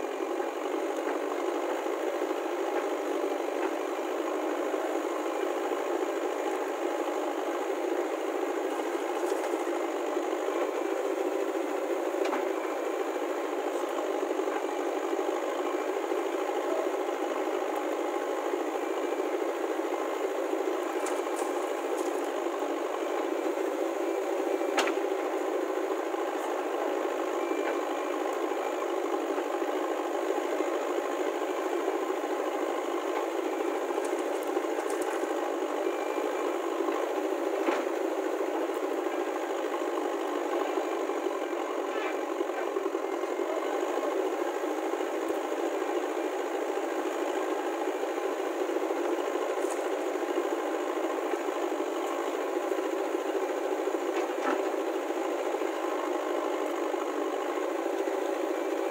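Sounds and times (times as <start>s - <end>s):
diesel engines running: 0.0s - 58.9s.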